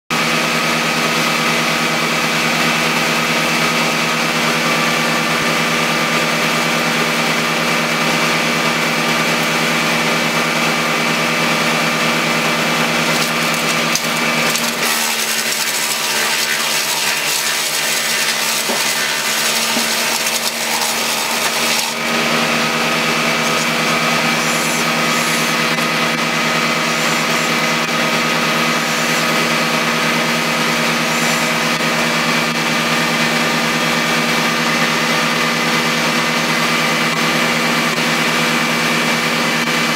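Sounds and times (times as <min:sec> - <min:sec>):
harsh sawing or grinding: 0:00.1 - 0:39.9
small engine running: 0:00.1 - 0:39.9.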